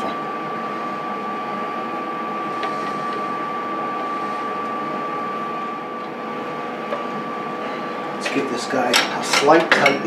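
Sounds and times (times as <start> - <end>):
lathe motor whining: 0.0 - 10.0.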